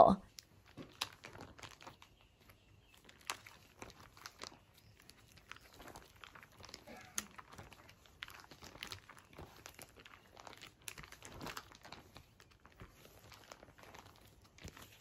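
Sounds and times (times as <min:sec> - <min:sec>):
plastic pages crinkling: 0:00.2 - 0:15.0.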